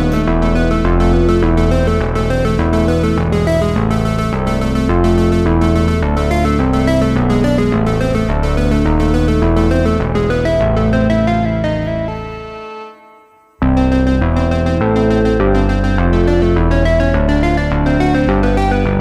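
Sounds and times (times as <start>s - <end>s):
synthesizer music with steady beat: 0.0s - 19.0s.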